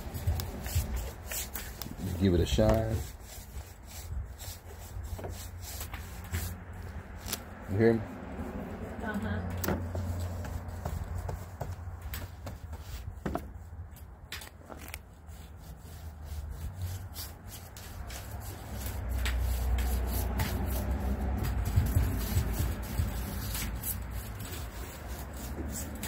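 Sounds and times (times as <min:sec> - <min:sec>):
brush scrubbing wooden deck: 0:00.0 - 0:26.0.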